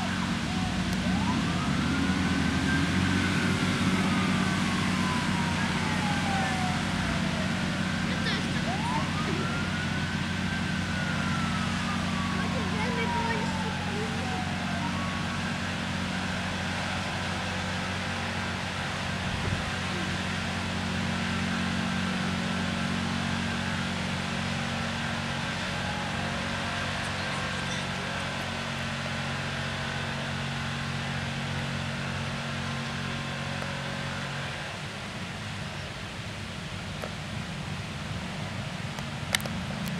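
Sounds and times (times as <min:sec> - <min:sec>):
fire engine humming: 0:00.0 - 0:39.9.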